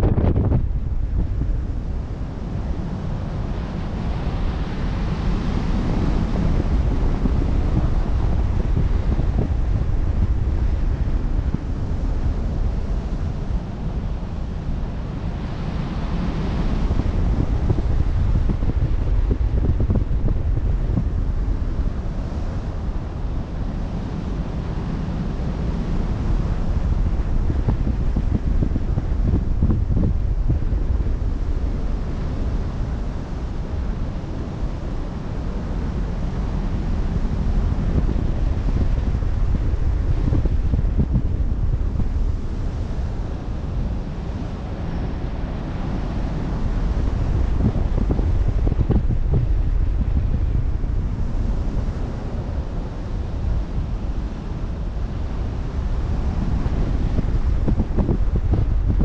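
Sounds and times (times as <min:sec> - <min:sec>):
waves washing: 0:00.0 - 0:59.0
wind buffeting microphone: 0:00.0 - 0:59.0.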